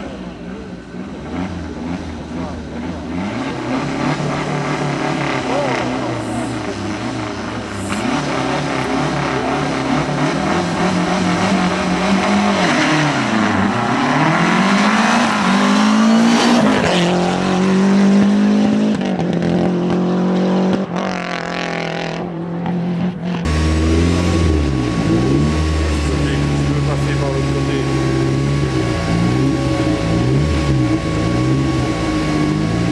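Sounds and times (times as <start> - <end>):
rally car engines revving: 0.0 - 32.9.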